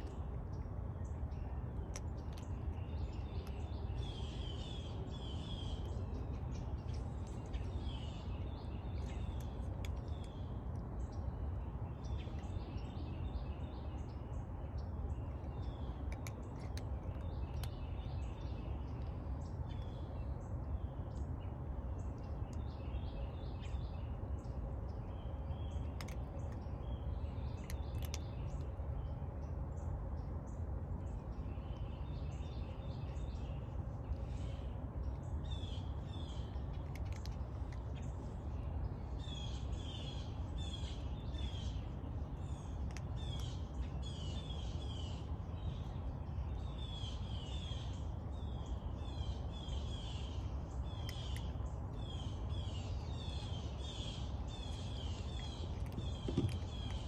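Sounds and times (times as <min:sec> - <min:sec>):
low outdoor rumble: 0:00.0 - 0:57.0
small birds chirping: 0:00.0 - 0:57.0.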